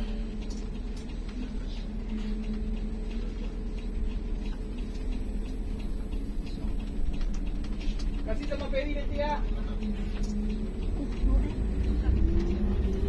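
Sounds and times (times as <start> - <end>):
bus diesel engine humming: 0.0 - 13.0.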